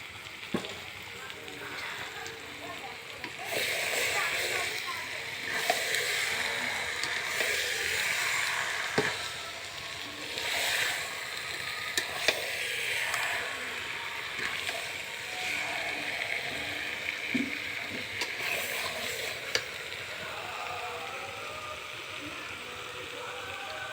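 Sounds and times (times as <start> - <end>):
food sizzling in a pan: 0.0 - 23.9.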